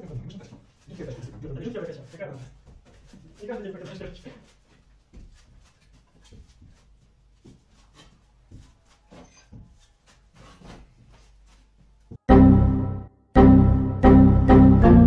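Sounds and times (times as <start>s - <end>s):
handling knocks and rustles: 0.0s - 12.2s.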